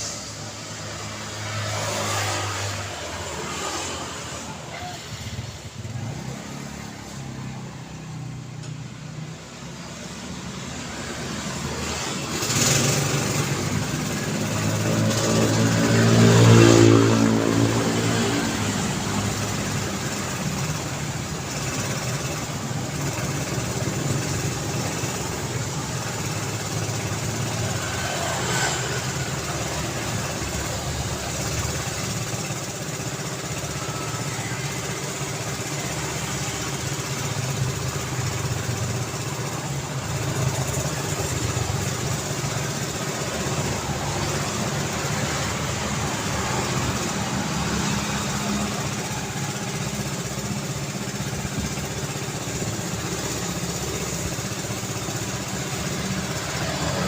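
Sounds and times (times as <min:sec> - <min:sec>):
road traffic rumble: 0:00.0 - 0:57.0
vehicle engine passing close: 0:00.0 - 0:57.0.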